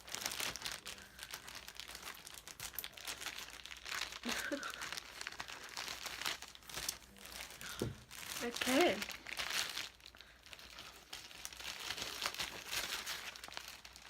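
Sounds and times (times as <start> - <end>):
packaging crumpling and tearing: 0.0 - 14.0.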